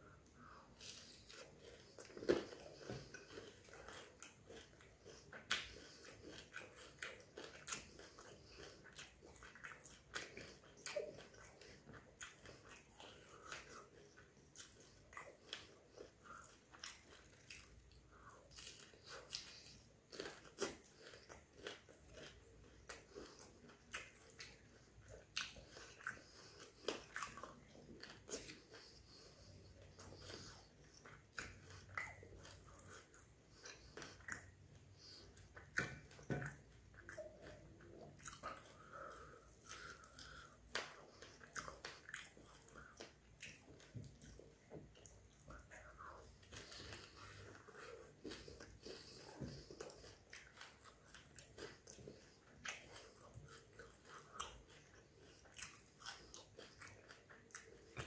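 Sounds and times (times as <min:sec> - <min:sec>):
wet chewing: 0:00.0 - 0:58.0.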